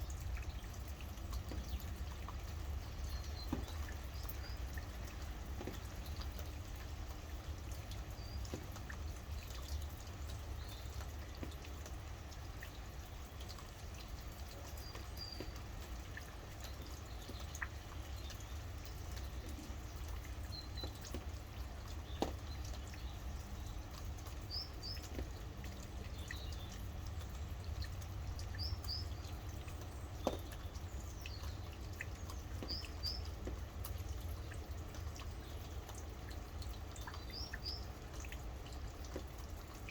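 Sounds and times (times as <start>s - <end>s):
sharp drips: 0.0s - 39.9s
small birds chirping: 0.0s - 39.9s
steady rain: 0.0s - 39.9s.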